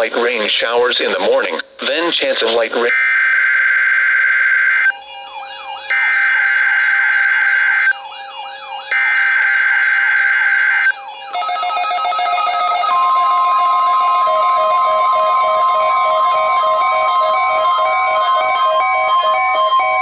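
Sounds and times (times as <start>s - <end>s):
weather radio alarm tone: 0.0s - 20.0s.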